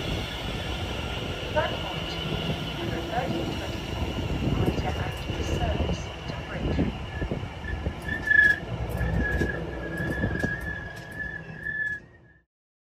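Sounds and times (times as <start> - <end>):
high-pitched whine: 0.0 - 12.4
train rumbling with clicks: 0.0 - 12.4.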